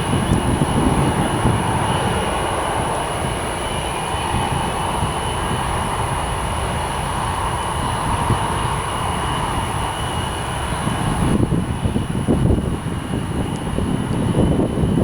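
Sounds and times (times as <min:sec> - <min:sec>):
jet engines rumbling and hissing: 0:00.0 - 0:15.0.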